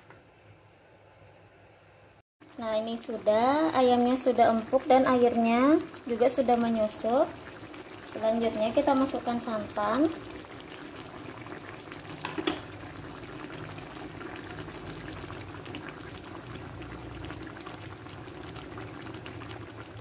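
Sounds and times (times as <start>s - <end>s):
broth bubbling and popping: 2.4s - 20.0s.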